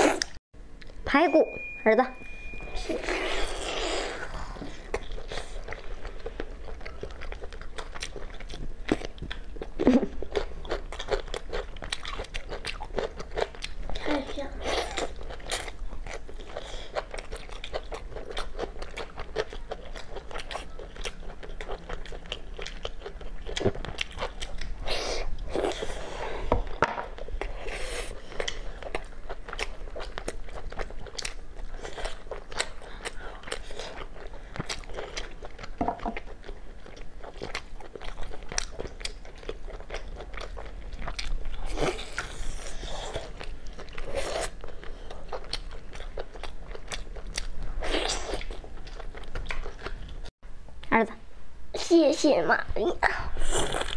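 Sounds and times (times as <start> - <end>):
person chewing meat: 3.0 - 50.3, 53.4 - 53.9.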